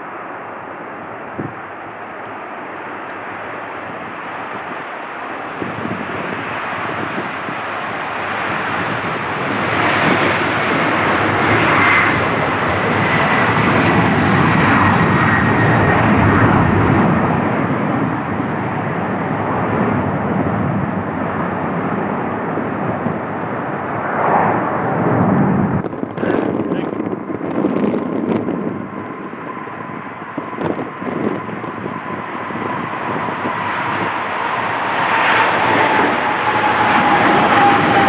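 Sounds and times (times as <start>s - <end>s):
high jet whine: 0.0s - 38.0s
jet engines roaring: 0.0s - 38.0s.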